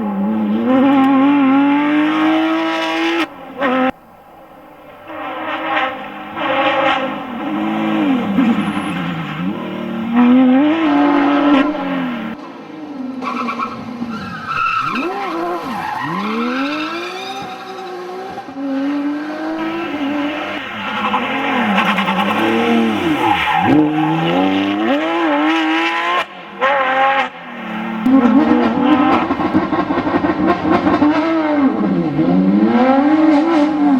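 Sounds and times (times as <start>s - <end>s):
car engine revving hard: 0.0s - 3.9s, 5.1s - 12.4s, 14.9s - 33.9s.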